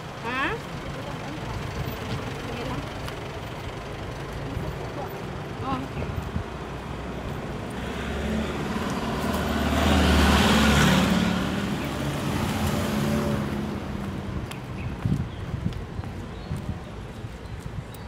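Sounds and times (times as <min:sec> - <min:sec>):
vehicle passing by: 0:00.7 - 0:15.2.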